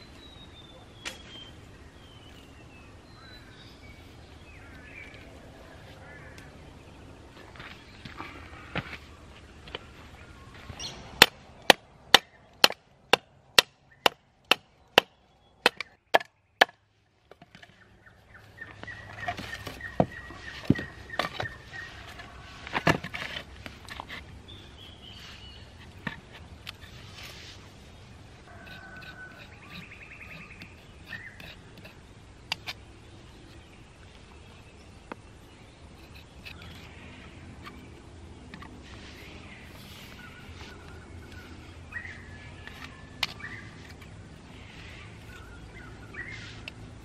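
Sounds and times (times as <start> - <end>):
birds chirping: 0.0 - 47.0
bush ambience: 0.0 - 47.0.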